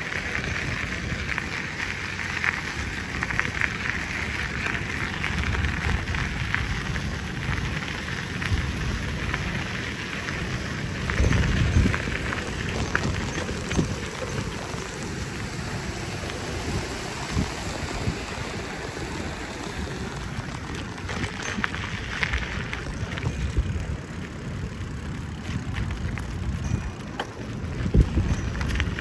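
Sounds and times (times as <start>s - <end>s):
bicycle tyres rolling: 0.0s - 29.0s
bike clicks and rattles: 0.0s - 29.0s
wind buffeting microphone: 0.0s - 29.0s.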